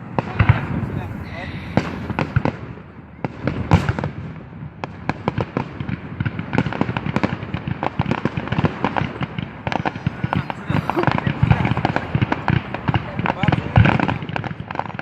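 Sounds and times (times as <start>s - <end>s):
fireworks and firecrackers banging: 0.0s - 15.0s.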